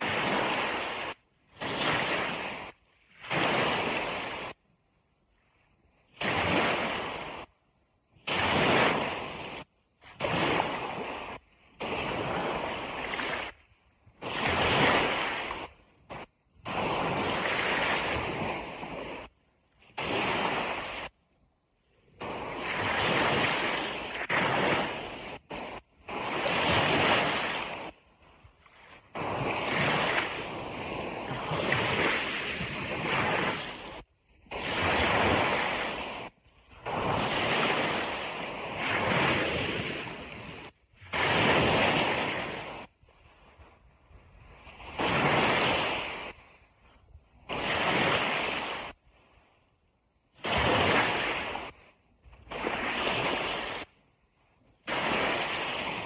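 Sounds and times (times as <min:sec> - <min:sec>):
ocean surf washing onto beach: 0:00.0 - 0:04.6, 0:06.0 - 0:21.2, 0:21.8 - 0:49.1, 0:50.4 - 0:54.0, 0:54.8 - 0:56.0.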